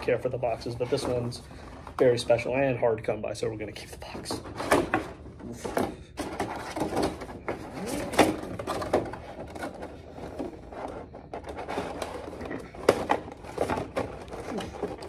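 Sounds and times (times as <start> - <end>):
cardboard rustling and scraping: 0.0 - 2.7, 4.1 - 15.0.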